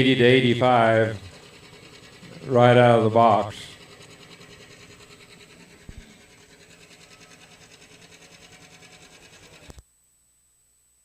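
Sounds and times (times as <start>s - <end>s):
diesel engine running: 0.0s - 9.7s.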